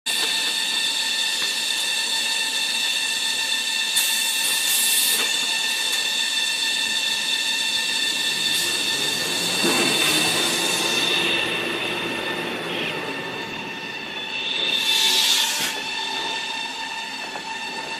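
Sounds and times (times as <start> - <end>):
production line machinery hum: 0.1 - 17.9
high whining tones: 0.2 - 17.9.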